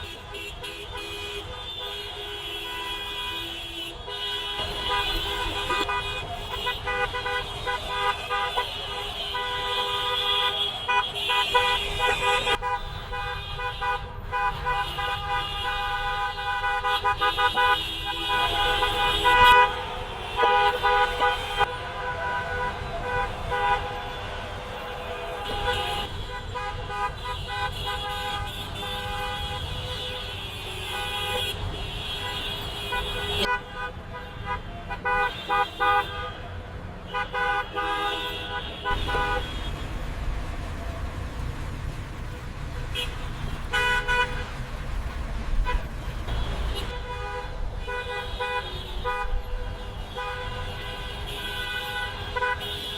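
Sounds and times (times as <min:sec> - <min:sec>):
car horns honking: 0:00.0 - 0:52.9
traffic rumble: 0:00.0 - 0:52.9.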